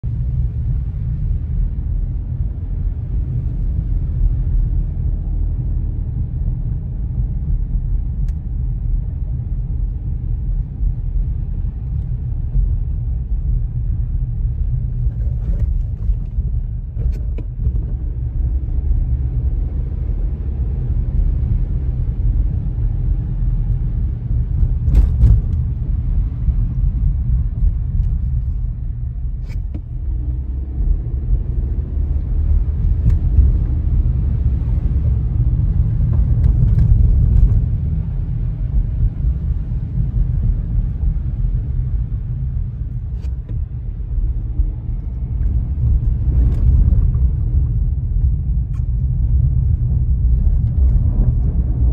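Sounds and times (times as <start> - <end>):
road and engine rumble: 0.0 - 51.9.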